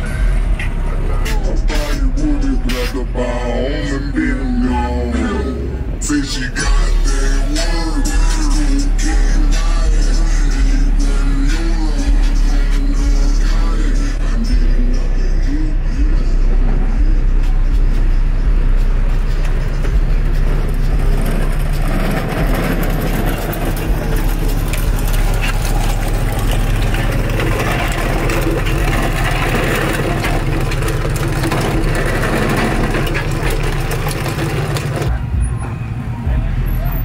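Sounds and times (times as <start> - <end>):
engine idling: 0.0 - 35.6
background chatter: 0.0 - 37.0.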